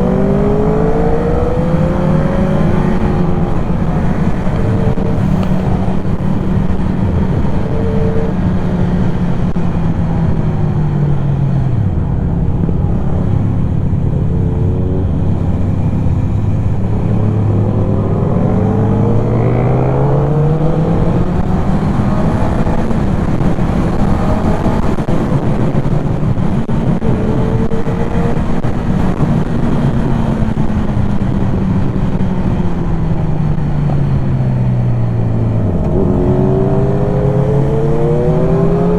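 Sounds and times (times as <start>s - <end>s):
motorcycle engine accelerating: 0.0s - 38.9s
wind rush noise: 0.0s - 38.9s.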